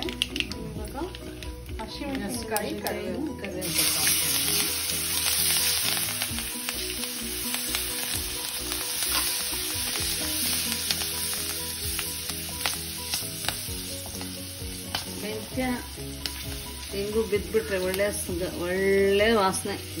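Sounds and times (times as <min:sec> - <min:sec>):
chillies sizzling in oil: 0:00.0 - 0:20.0.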